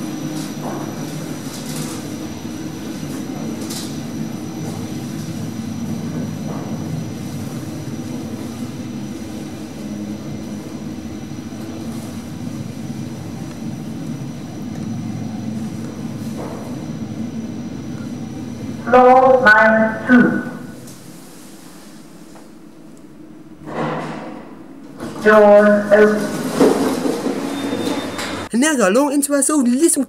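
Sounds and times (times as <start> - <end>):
lift car rumbling: 0.0 - 21.8, 24.7 - 28.5.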